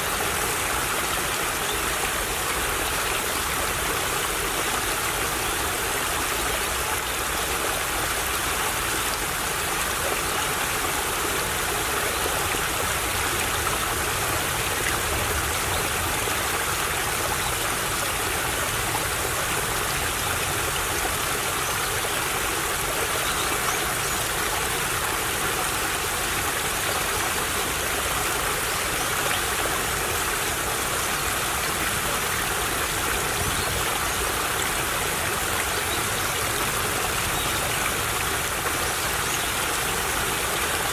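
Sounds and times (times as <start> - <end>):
stream babbling and trickling: 0.0 - 40.9.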